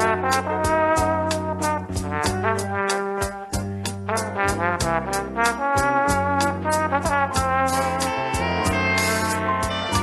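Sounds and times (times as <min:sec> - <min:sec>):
big band music: 0:00.0 - 0:10.0
percussion beat: 0:00.0 - 0:10.0
steady bass: 0:00.0 - 0:10.0
trombone-led brass: 0:00.0 - 0:10.0.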